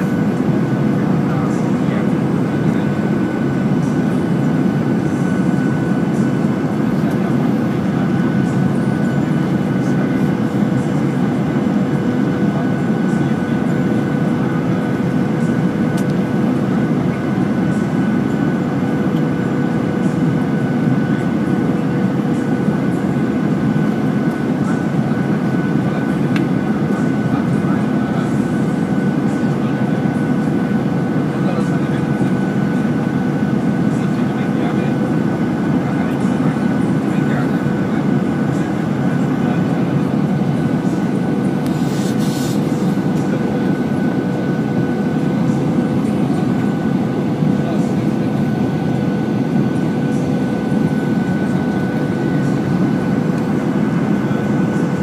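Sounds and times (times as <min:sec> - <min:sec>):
airflow and jet engine roar: 0:00.0 - 0:55.0
steady hum: 0:00.0 - 0:55.0.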